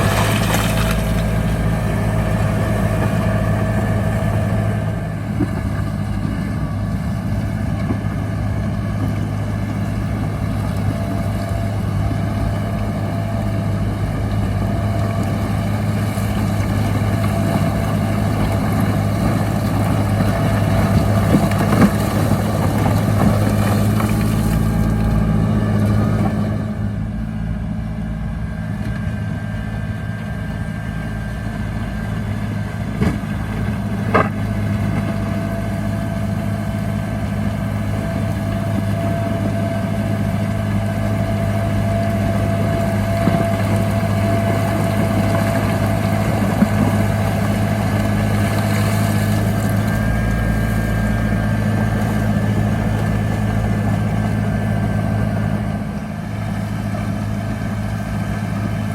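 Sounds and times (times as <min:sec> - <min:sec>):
heavy diesel engine under load: 0:00.0 - 0:58.9.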